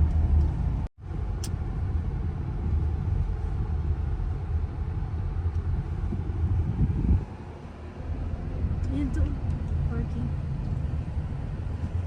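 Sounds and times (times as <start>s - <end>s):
vehicle rumble inside cabin: 0.0s - 12.0s.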